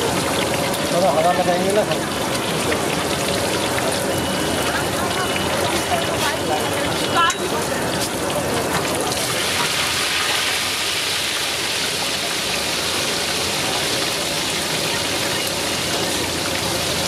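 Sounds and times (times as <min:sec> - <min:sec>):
chicken deep-frying in hot oil: 0:00.0 - 0:17.0.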